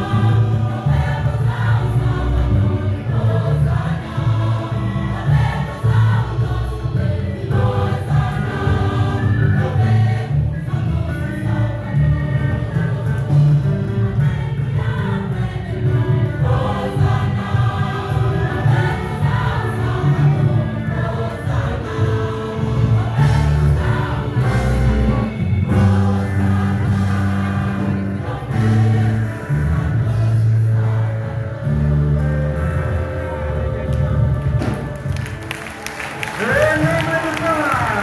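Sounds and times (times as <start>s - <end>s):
choir singing gospel music: 0.0s - 38.0s
instrumental backing with bass: 0.0s - 38.0s.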